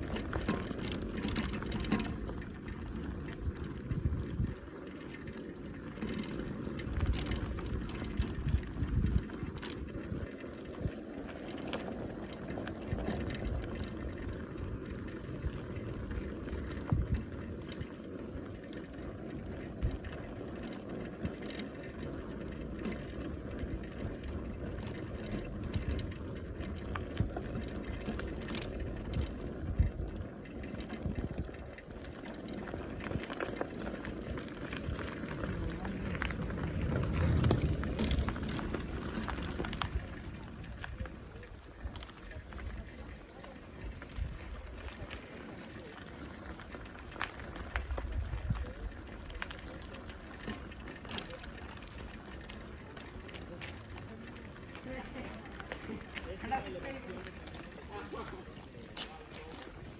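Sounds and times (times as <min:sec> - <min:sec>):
bicycle rattling over bumps: 0:00.0 - 0:59.9
bicycle tyre noise: 0:00.0 - 0:59.9.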